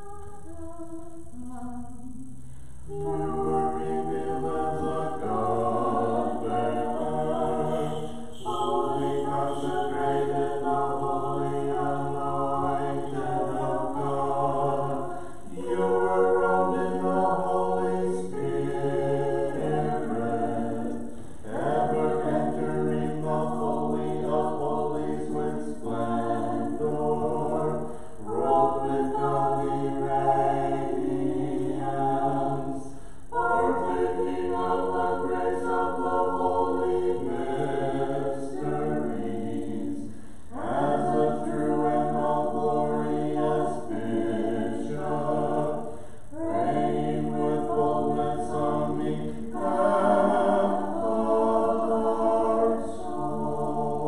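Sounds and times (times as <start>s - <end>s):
choir singing a cappella chant: 0.0s - 54.0s.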